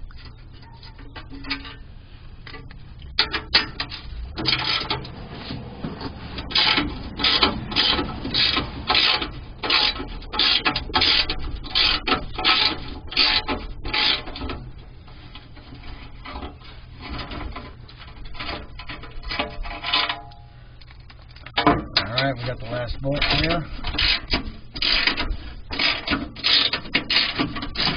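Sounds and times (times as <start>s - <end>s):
metal scraping and ticks: 0.0s - 27.9s.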